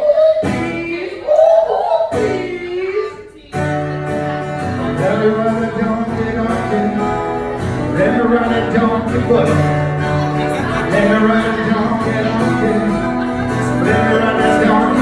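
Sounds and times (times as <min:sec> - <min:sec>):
acoustic guitar chords: 0:00.0 - 0:15.0
person singing: 0:00.0 - 0:15.0.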